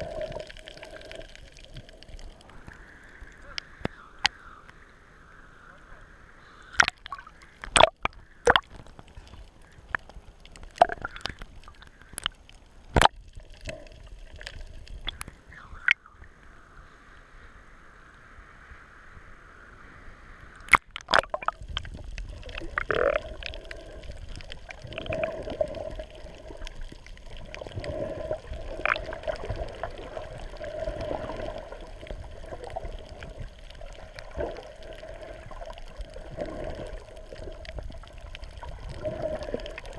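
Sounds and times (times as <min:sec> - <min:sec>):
water sloshing and gurgling: 0:00.0 - 0:04.8, 0:06.6 - 0:16.1, 0:20.6 - 0:39.9
faint hum: 0:00.0 - 0:39.9.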